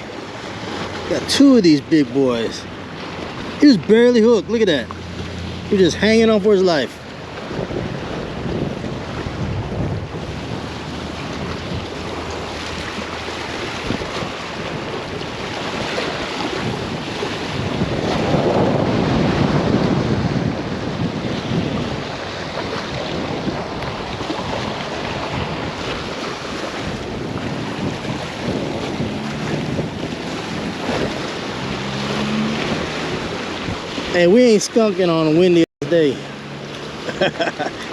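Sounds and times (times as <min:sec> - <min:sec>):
wind buffeting microphone: 0:00.0 - 0:37.1
choppy water: 0:00.0 - 0:37.9.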